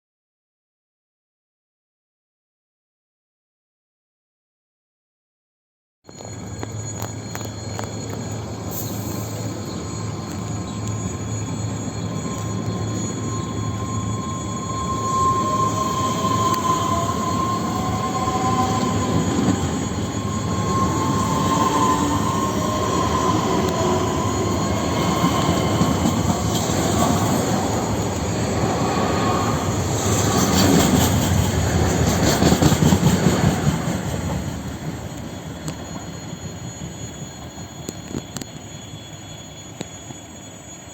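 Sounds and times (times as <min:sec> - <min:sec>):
electric train running on rails: 0:06.1 - 0:40.9
squealing train wheels: 0:06.1 - 0:40.9.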